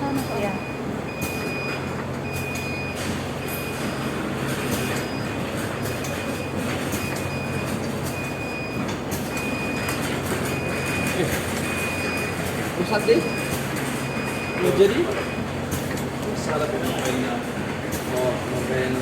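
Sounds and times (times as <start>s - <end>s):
packaging machine humming: 0.0s - 19.0s.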